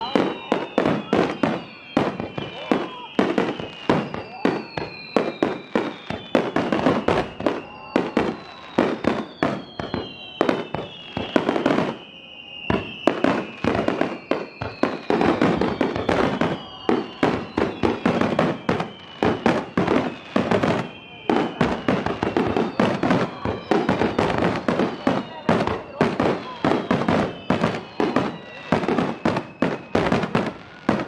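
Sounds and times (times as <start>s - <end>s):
descending firework whistles: 0.0s - 31.0s
fireworks bangs and crackles: 0.0s - 31.0s.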